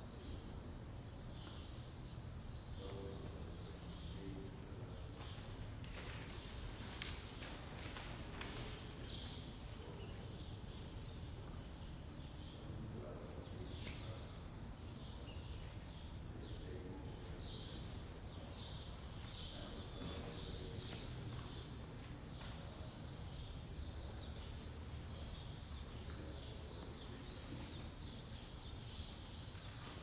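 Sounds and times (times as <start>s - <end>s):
low steady hum: 0.0s - 30.0s
small birds chirping: 0.0s - 30.0s.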